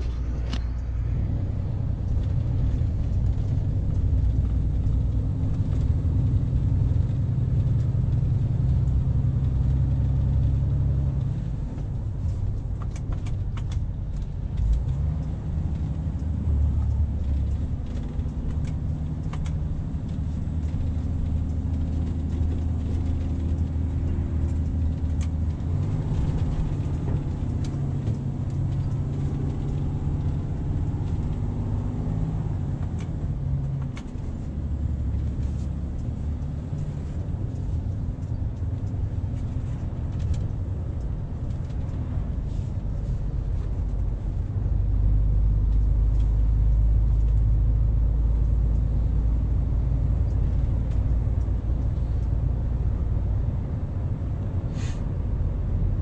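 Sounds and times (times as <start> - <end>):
lorry engine and road drone: 0.0 - 56.0.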